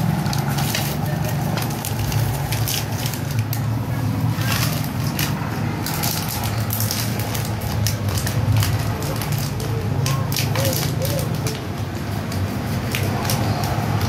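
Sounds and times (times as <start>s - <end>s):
plastic wrappers crinkling: 0.0s - 14.0s.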